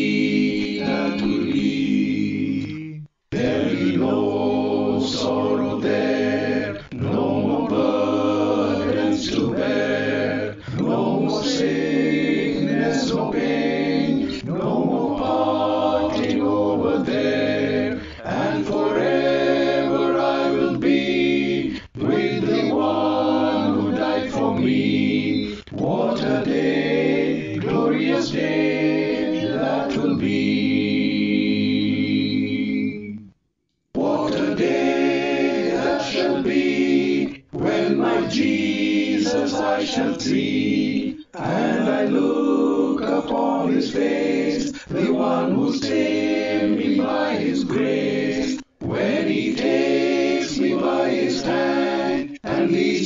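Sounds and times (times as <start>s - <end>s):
men's choir singing a hymn: 0.0s - 33.1s, 34.0s - 53.0s.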